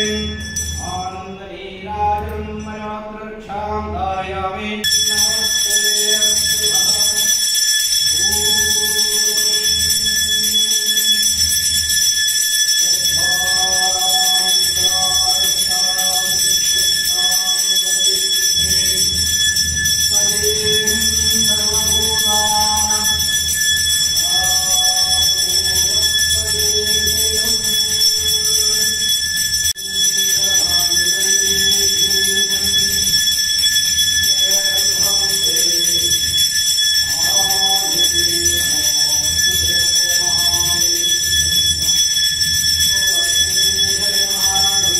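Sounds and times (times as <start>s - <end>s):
bell ringing continuously: 0.0s - 1.4s, 4.8s - 44.9s
devotional chant singing: 0.0s - 44.9s.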